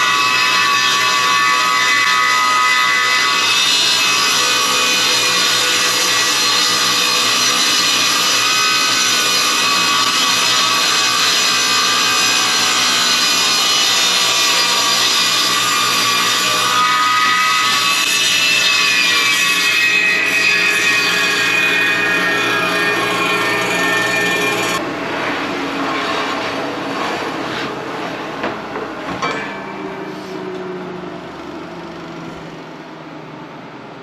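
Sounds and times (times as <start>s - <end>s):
table saw cutting wood: 0.0s - 32.9s.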